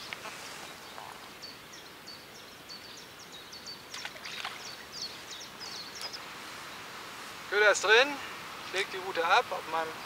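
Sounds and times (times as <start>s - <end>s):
faint outdoor background: 0.0s - 10.0s
songbird chirping: 0.0s - 10.0s.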